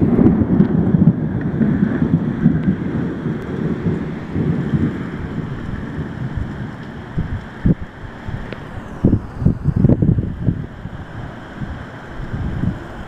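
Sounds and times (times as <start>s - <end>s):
low thunder rumble: 0.0s - 13.0s
rain falling: 0.0s - 13.0s
wind: 0.0s - 13.0s.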